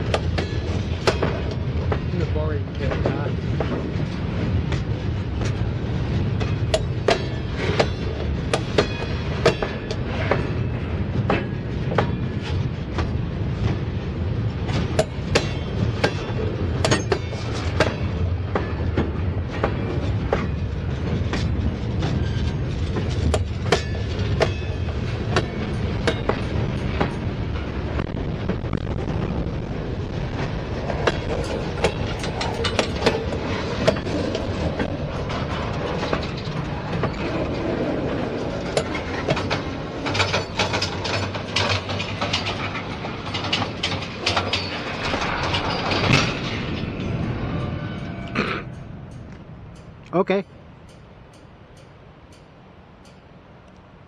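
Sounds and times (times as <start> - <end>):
steel wheels rumbling on rail: 0.0 - 54.0
wheels clanking over rail joints: 0.0 - 54.0.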